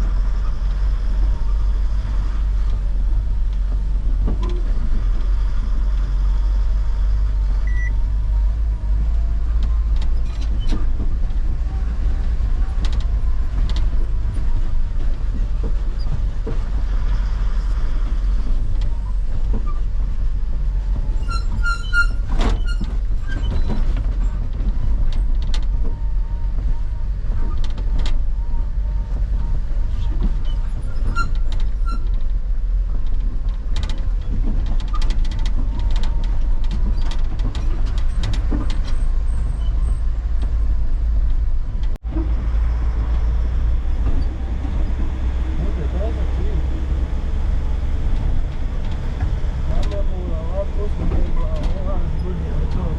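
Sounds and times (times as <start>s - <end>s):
truck engine and road rumble: 0.0s - 52.9s
rattles and knocks: 8.5s - 28.2s, 29.2s - 52.9s.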